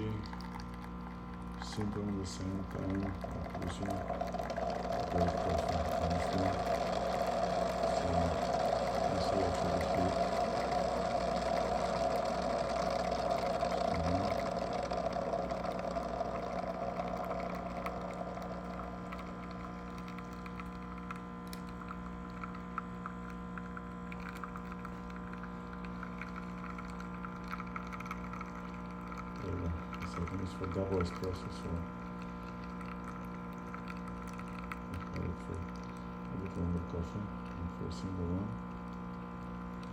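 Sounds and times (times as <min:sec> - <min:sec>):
espresso machine humming: 0:00.0 - 0:39.9.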